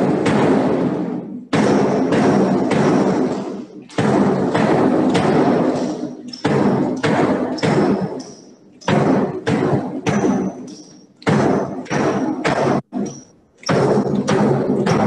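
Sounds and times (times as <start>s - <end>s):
marching drum beat echoing: 0.0s - 15.0s.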